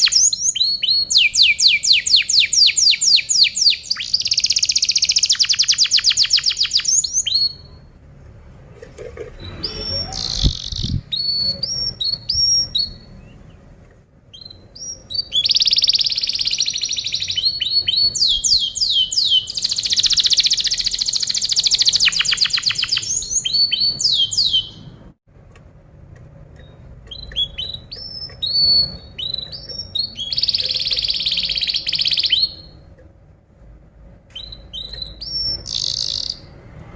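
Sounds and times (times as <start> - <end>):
canary singing trills: 0.0 - 8.0, 9.4 - 13.7, 14.3 - 25.0, 26.6 - 32.9, 34.3 - 36.6.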